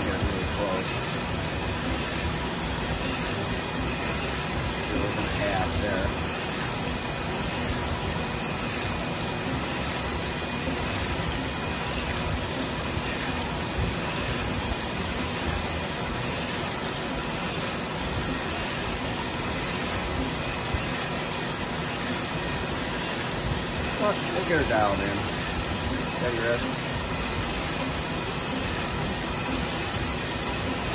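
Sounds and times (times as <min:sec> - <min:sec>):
faint machine hum: 0:00.0 - 0:30.9
grinder hissing: 0:00.0 - 0:30.9.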